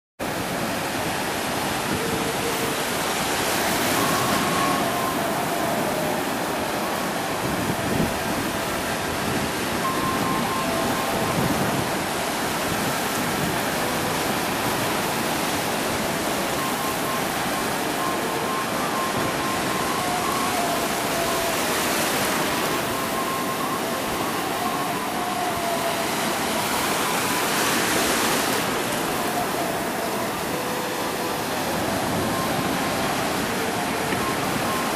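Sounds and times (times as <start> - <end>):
ocean waves breaking: 0.2 - 34.9.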